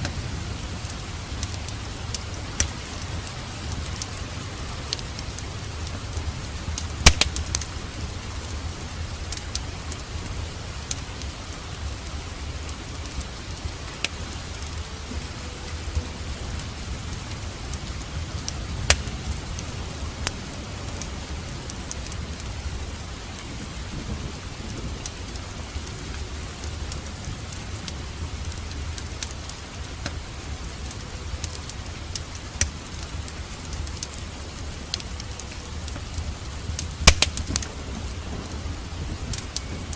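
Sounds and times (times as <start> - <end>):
steady rain: 0.0 - 39.9
thunder rumbling: 0.0 - 39.9
wood fire crackling: 0.0 - 39.9.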